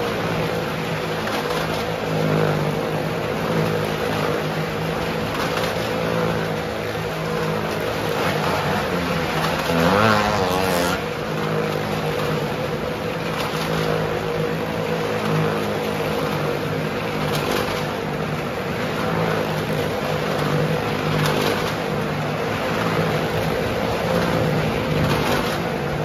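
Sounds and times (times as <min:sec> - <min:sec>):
car and motorcycle engines running: 0:00.0 - 0:26.0.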